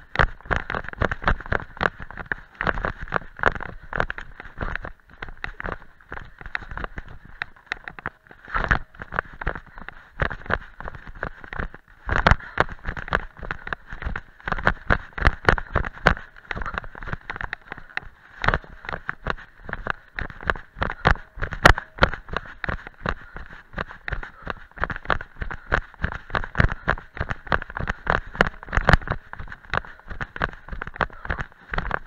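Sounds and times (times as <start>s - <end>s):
footsteps crunching on dirt path: 0.0s - 32.0s.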